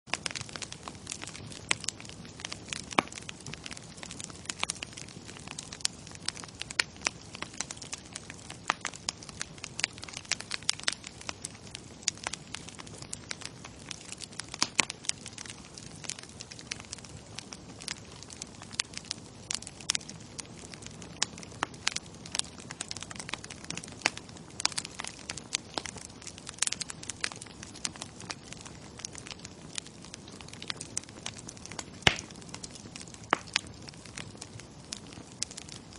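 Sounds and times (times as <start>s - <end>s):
bonfire crackling and popping: 0.1s - 35.9s.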